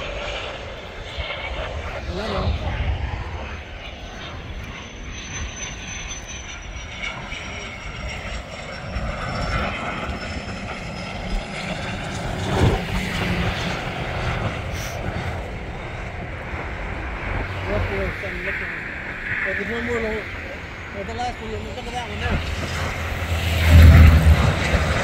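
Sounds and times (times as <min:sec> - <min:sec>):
aircraft engine rushing: 0:00.0 - 0:25.0.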